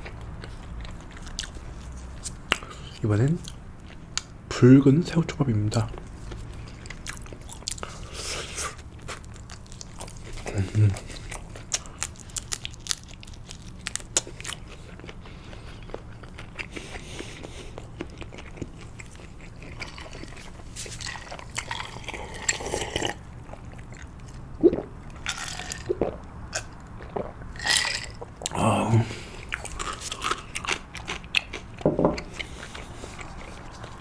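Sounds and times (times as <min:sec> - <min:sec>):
close chewing with mouth clicks: 0:00.0 - 0:04.4, 0:05.8 - 0:28.6, 0:29.2 - 0:34.0.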